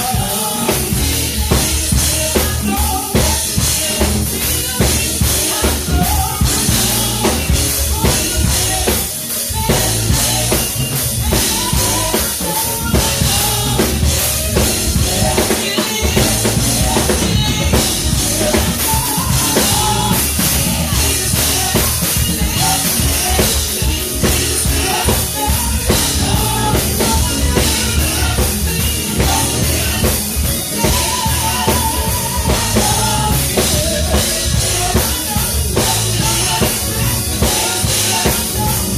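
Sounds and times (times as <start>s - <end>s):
drum kit: 0.0s - 38.9s
live gospel band: 0.0s - 38.9s.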